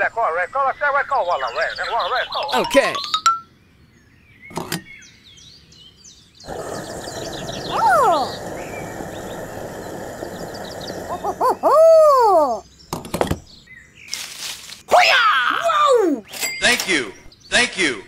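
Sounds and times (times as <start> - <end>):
birds chirping: 0.0 - 14.9, 15.7 - 18.0.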